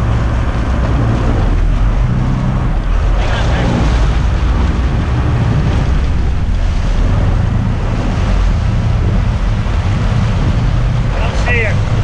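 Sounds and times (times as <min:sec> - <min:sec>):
rushing splashing seawater: 0:00.0 - 0:12.0
wind rumble on microphone: 0:00.0 - 0:12.0.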